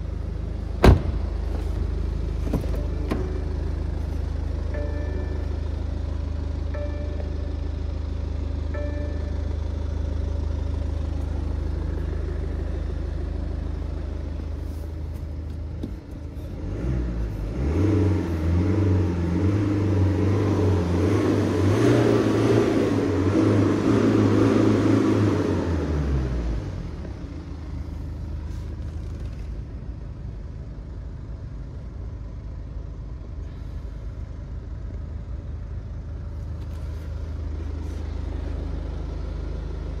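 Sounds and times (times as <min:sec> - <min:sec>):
diesel car engine idling and revving: 0:00.0 - 0:40.0.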